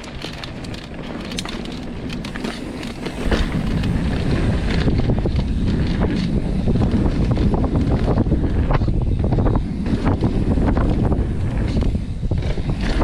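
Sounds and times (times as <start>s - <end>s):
mountain bike rattling: 0.0s - 13.0s
wind buffeting microphone: 0.0s - 13.0s.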